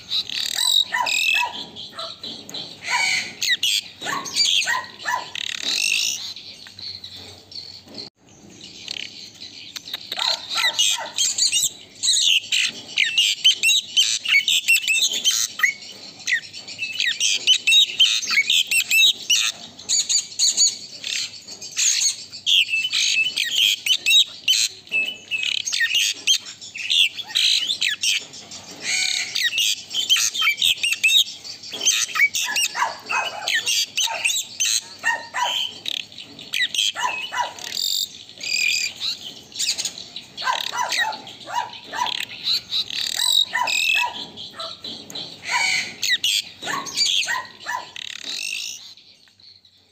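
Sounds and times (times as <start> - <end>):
starling singing high chirps: 0.0 - 49.9.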